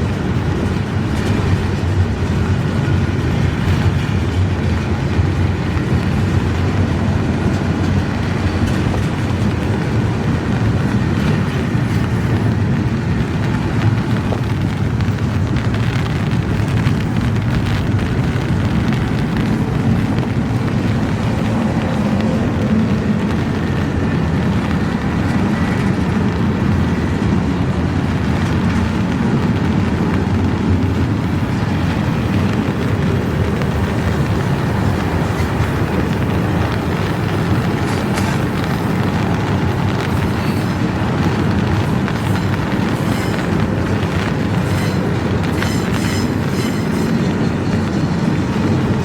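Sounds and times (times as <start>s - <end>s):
wheels clicking over rail joints: 0.0s - 49.0s
wheels rumbling on rail: 0.0s - 49.0s.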